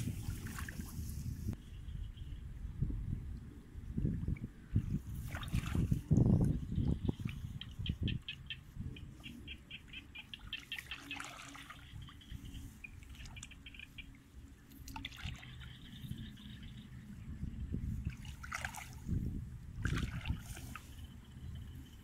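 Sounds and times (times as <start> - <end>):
muddy water sloshing and splashing: 0.0 - 1.5, 4.1 - 22.0.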